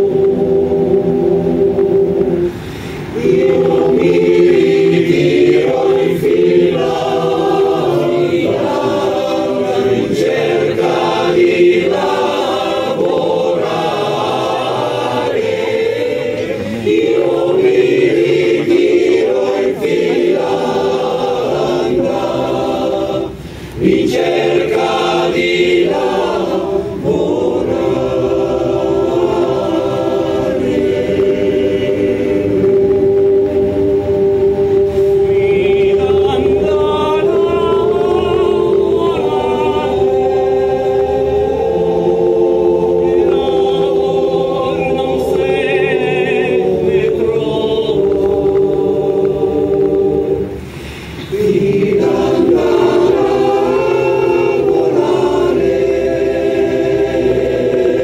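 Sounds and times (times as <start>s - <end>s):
male choir singing in harmony: 0.0s - 58.0s.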